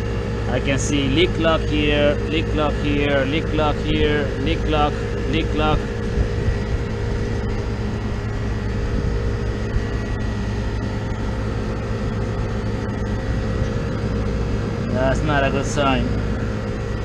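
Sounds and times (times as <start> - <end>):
compressor humming: 0.0 - 17.0.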